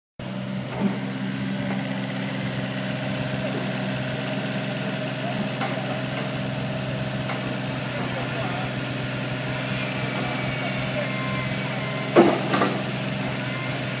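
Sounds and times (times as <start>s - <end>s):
diesel engine running: 0.2s - 14.0s
engine knock: 1.6s - 14.0s.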